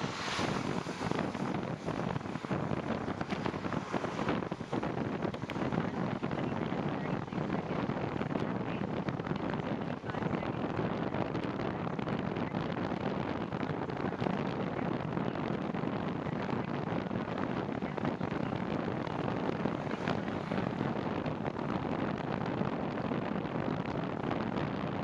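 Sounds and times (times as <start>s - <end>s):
bicycle road noise in rain: 0.0s - 25.0s
wind on microphone: 0.0s - 25.0s.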